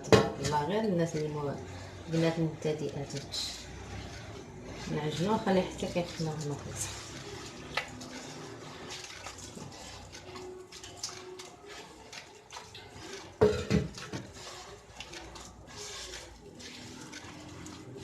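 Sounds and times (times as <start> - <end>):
dough being kneaded by hand: 0.0 - 18.0.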